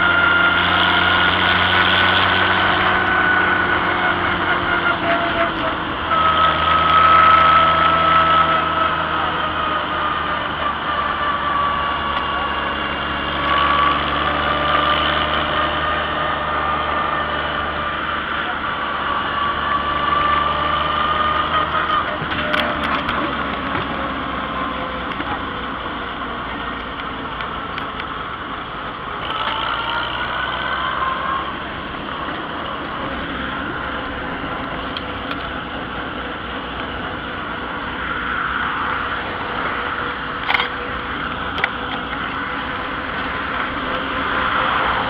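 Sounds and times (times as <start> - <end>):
tractor engine running: 0.0 - 45.0
wind and road noise: 0.0 - 45.0.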